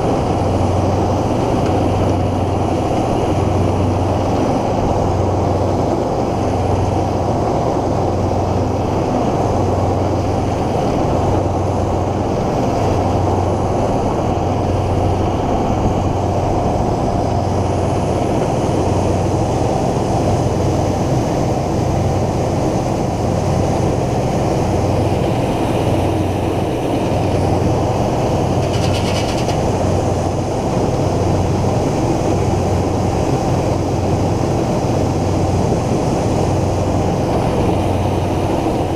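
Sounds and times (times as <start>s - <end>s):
pulsing low hum: 0.0s - 38.9s
tractor and mill running: 0.0s - 38.9s.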